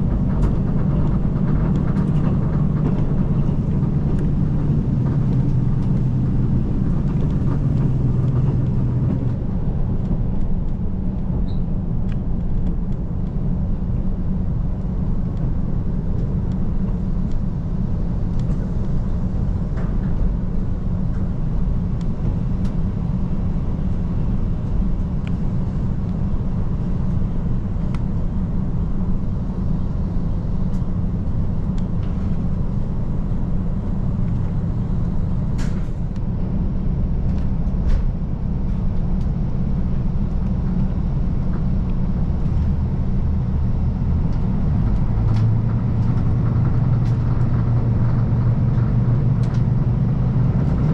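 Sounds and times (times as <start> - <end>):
railcar engine drone: 0.0 - 50.9.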